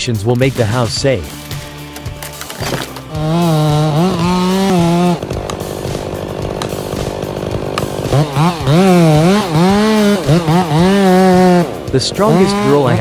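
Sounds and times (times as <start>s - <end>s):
chainsaw cutting wood: 0.6s - 13.0s.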